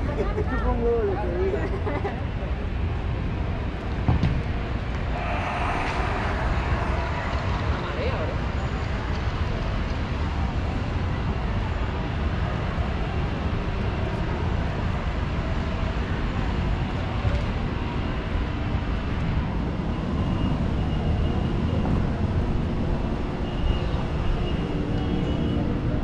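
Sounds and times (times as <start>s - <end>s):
urban background rumble: 0.0s - 26.0s.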